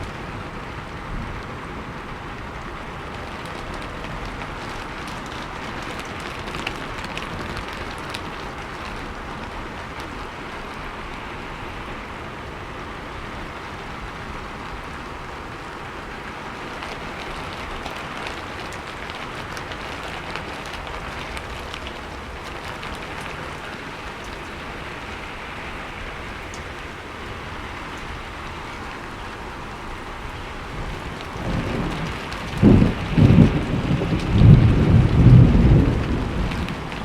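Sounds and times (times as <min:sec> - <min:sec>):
sharp ticks of raindrops: 0:00.0 - 0:37.0
steady rain falling: 0:00.0 - 0:37.0.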